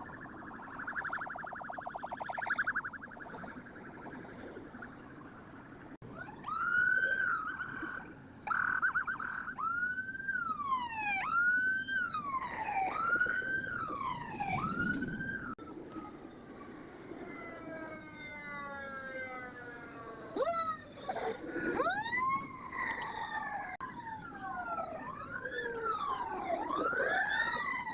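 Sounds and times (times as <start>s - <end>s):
fire truck siren wailing: 0.0s - 4.1s, 6.1s - 21.0s, 21.7s - 27.9s.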